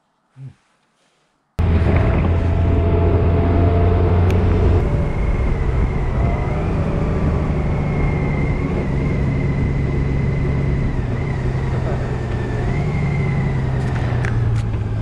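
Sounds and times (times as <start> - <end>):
car engine hum: 1.6 - 15.0
road noise: 1.6 - 15.0.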